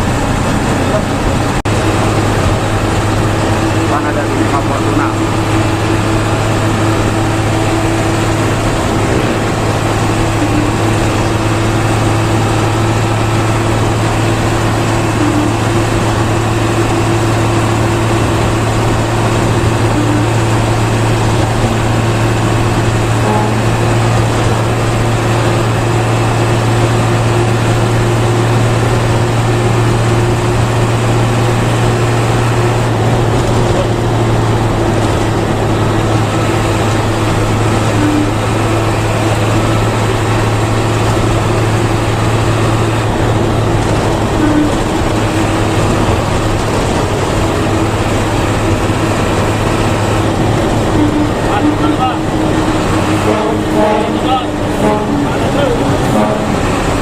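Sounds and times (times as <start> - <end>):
bus engine drone: 0.0 - 57.0
road and tyre noise: 0.0 - 57.0.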